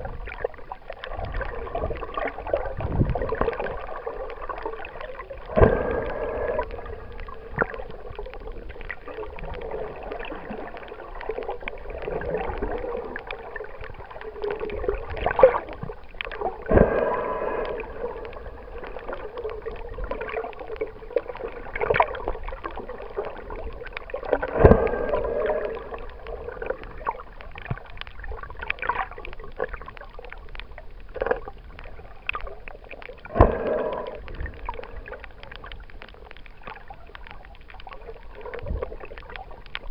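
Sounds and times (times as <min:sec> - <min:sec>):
muffled underwater hum: 0:00.0 - 0:39.9.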